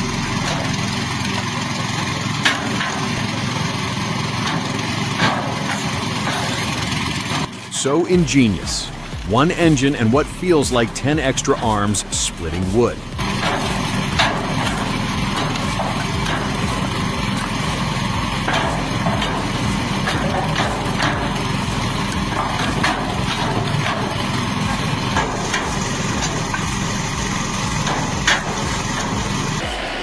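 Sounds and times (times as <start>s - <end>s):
wood splitter engine running: 0.0s - 30.0s.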